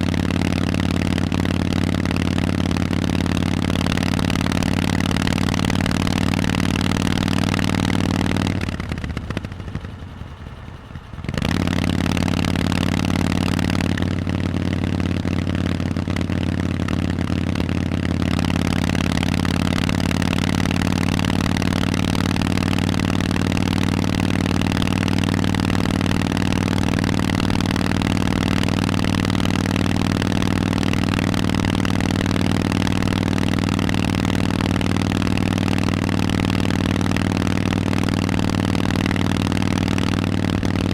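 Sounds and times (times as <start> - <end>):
motorcycle engine exhaust note: 0.0 - 40.9.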